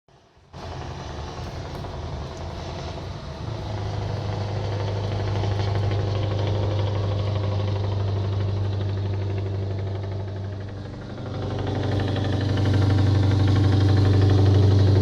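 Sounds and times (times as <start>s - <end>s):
diesel engine idling: 0.1s - 15.0s.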